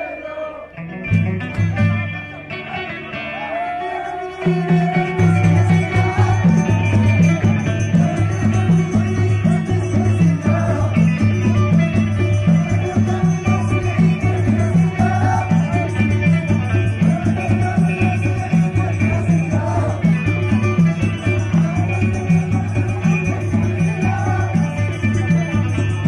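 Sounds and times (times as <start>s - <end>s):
folk band playing: 0.8s - 26.0s.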